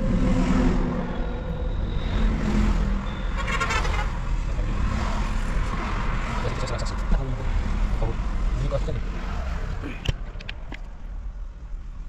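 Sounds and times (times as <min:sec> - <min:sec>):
engine and traffic noise: 0:00.0 - 0:12.0.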